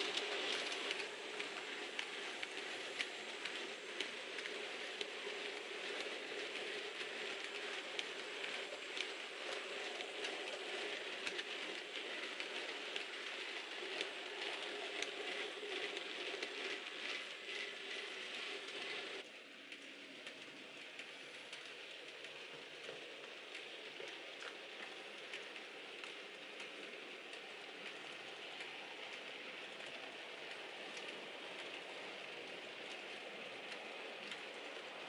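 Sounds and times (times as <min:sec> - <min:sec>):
model train rolling on track: 0:00.0 - 0:35.0.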